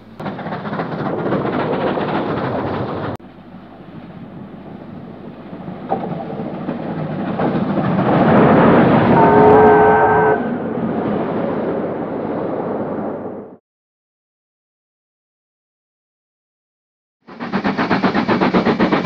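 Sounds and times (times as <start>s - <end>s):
steam locomotive rumbling: 0.0s - 13.6s, 17.2s - 19.0s.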